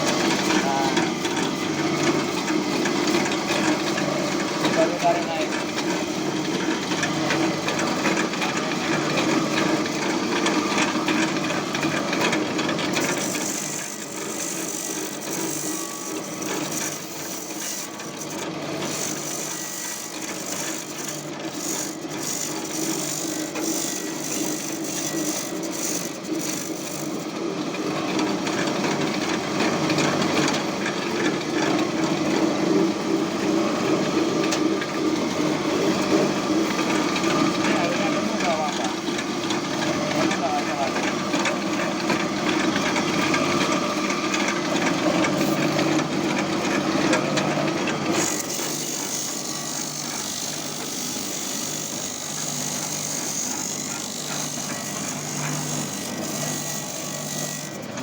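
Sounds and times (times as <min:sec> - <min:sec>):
sharpening machine running: 0:00.0 - 0:58.0.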